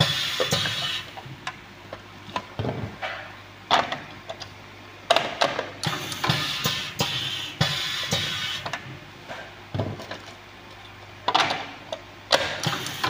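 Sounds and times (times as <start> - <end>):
steady machine hum: 0.0 - 5.1, 5.7 - 11.2.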